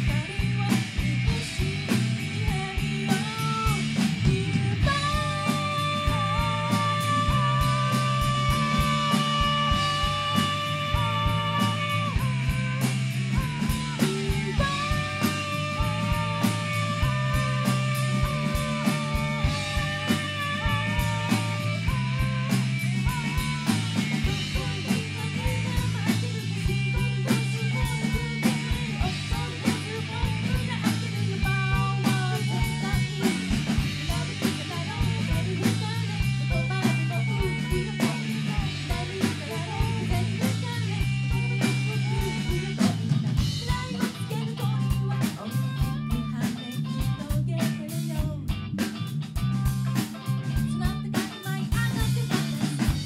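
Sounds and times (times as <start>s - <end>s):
woman singing: 0.0s - 48.5s, 50.4s - 53.0s
rock band playing live: 0.0s - 53.0s.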